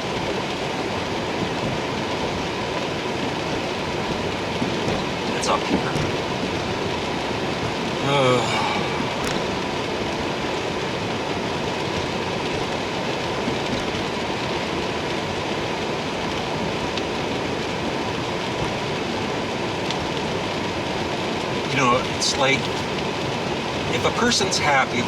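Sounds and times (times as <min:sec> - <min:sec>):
heavy freezing rain falling: 0:00.0 - 0:25.0.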